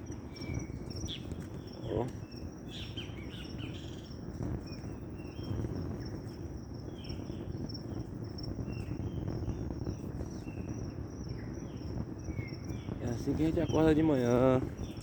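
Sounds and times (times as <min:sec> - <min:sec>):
insects trilling: 0:00.0 - 0:15.0
songbirds chirping: 0:00.0 - 0:15.0.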